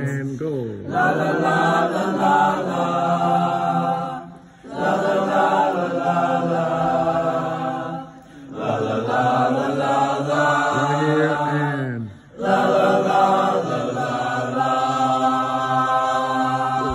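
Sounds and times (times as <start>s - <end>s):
boys singing unaccompanied: 0.8s - 16.9s.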